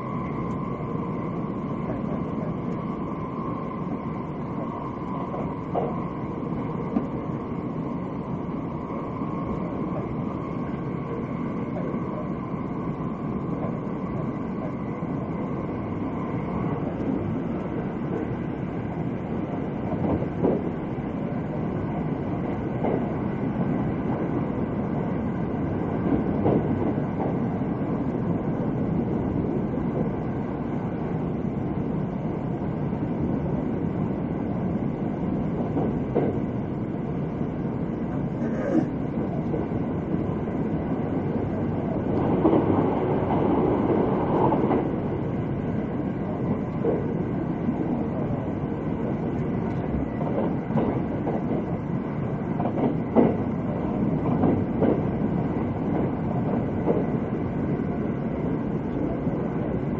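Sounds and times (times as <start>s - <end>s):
rail joint clicks: 0.0s - 59.9s
train wheels rumbling on rail: 0.0s - 59.9s.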